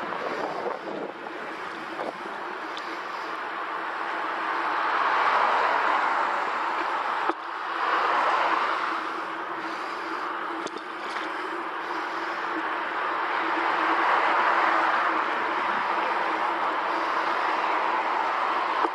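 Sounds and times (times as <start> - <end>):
road noise: 0.0 - 18.9
wind rush while cycling: 0.0 - 18.9.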